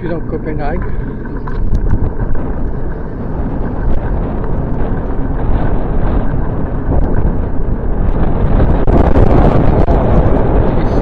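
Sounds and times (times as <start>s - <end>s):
bicycle tyres on pavement: 0.0s - 11.0s
wind buffeting microphone: 0.0s - 11.0s.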